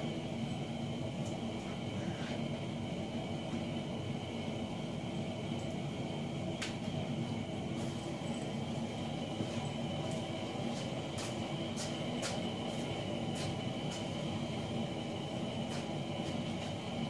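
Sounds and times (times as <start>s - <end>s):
high whine: 0.0s - 17.0s
mechanical hum: 0.0s - 17.0s.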